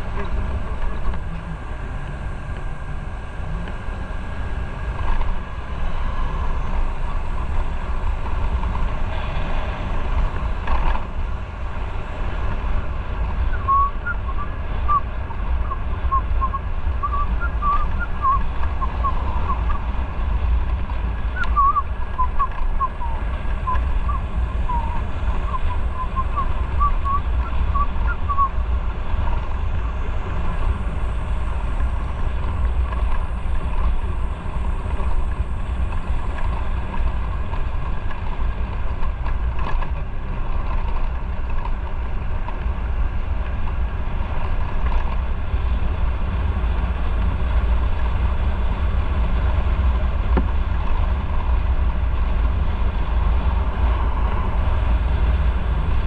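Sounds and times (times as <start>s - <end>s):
motorcycle engine running: 0.0s - 56.0s
road noise: 0.0s - 56.0s
wind buffeting microphone: 0.0s - 56.0s.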